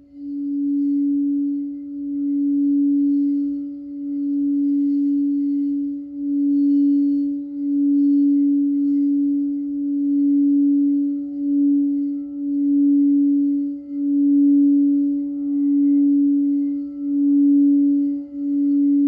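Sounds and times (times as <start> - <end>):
crystal singing bowl tone: 0.0 - 19.0.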